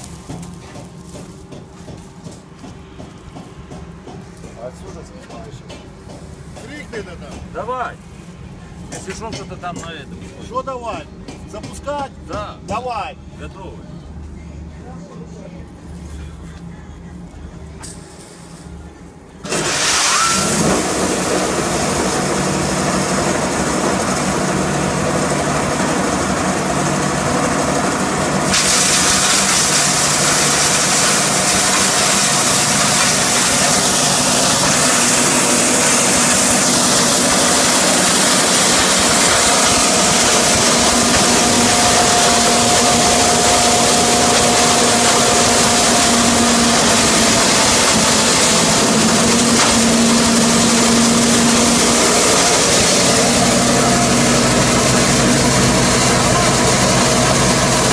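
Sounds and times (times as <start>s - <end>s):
hammer mill whirring: 0.0s - 57.9s.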